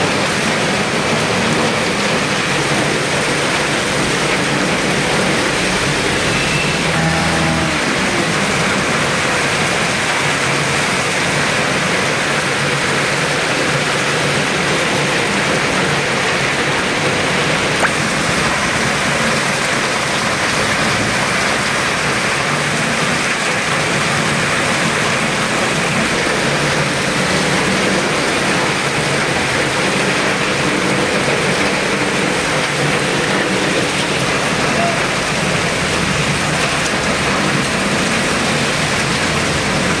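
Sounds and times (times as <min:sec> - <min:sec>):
heavy rain on a street: 0:00.0 - 0:40.0
running water: 0:00.0 - 0:40.0.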